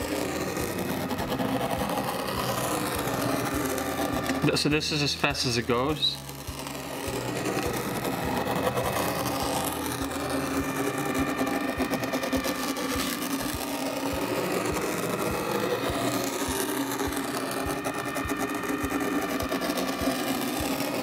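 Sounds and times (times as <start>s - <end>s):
machine motor whirring: 0.0s - 21.0s.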